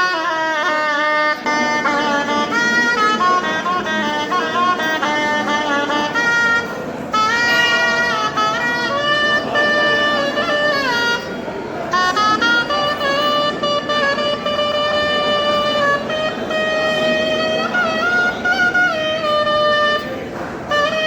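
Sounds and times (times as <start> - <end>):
reedy wind instrument melody: 0.0 - 21.0.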